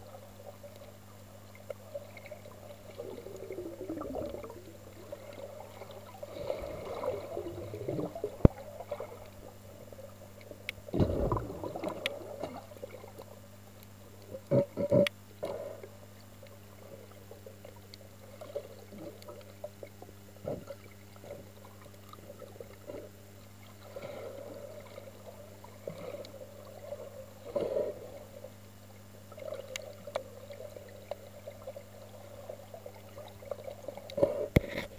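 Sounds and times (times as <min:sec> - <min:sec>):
steady low hum: 0:00.0 - 0:34.9
underwater sloshing and gurgling: 0:00.0 - 0:34.9.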